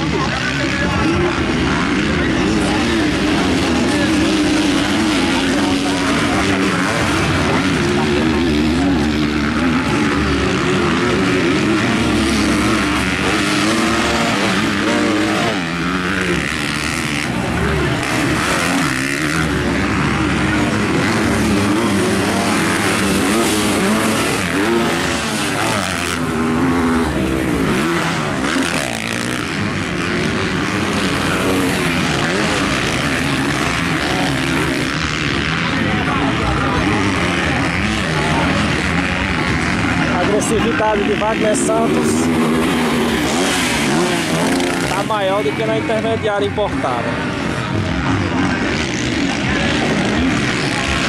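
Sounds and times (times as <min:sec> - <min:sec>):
motocross engines revving: 0:00.0 - 0:51.0.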